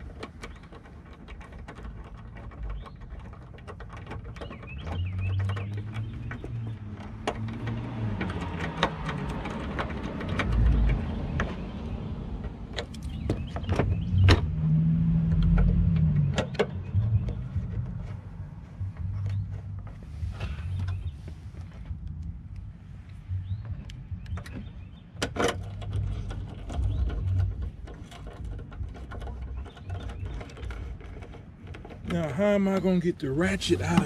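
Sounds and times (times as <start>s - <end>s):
low engine hum: 0.0s - 34.0s.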